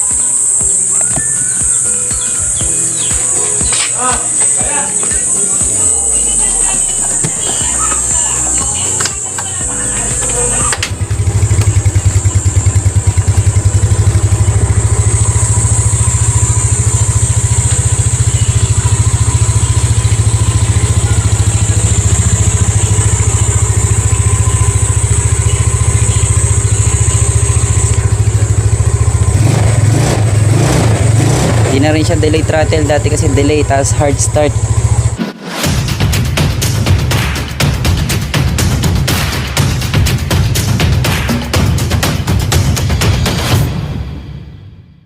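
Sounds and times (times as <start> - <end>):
scooter engine idling: 0.0 - 35.2, 35.8 - 43.7.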